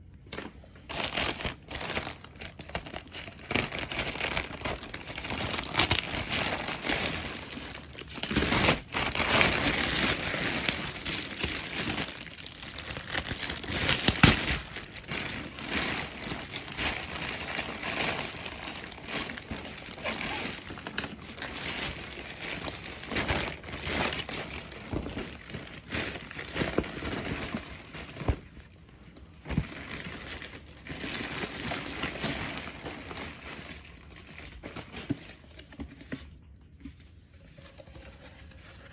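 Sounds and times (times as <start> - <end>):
packaging crinkling and rustling: 0.1 - 38.9.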